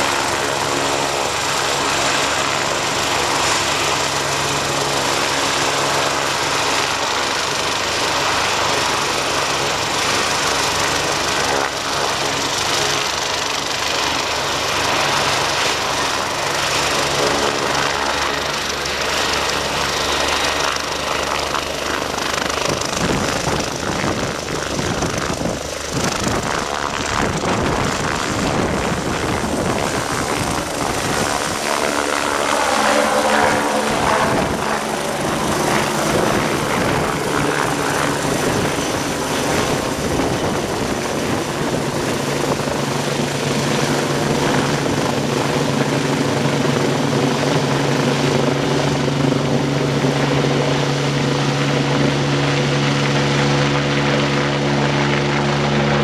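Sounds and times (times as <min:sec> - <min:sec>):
helicopter rotor beat: 0:00.0 - 0:56.0.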